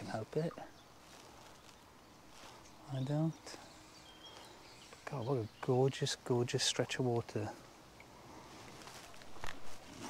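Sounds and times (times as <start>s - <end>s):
rustle near microphone: 0.0s - 10.0s.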